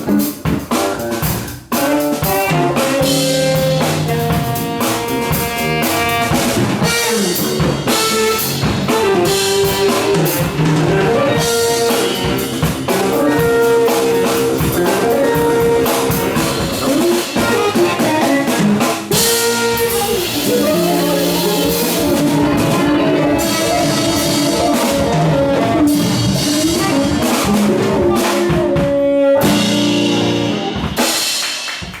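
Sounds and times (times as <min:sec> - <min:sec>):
live funk-jazz band playing: 0:00.0 - 0:32.0.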